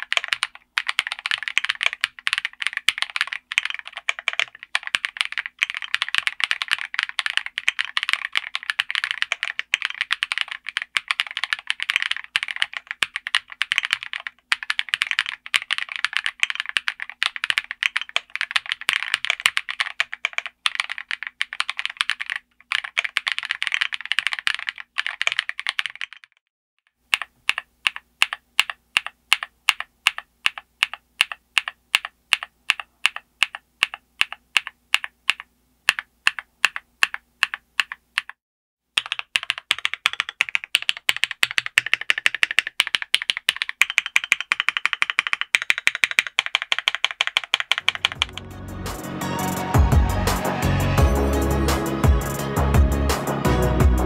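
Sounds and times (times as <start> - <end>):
typing on mechanical keyboard: 0.0 - 26.4, 27.1 - 38.4, 39.0 - 48.5.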